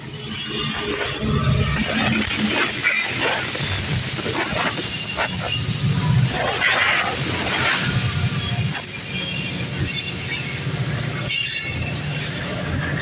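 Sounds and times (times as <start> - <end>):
freight train rumbling past: 0.0 - 13.0
steel wheel squeal: 0.0 - 13.0.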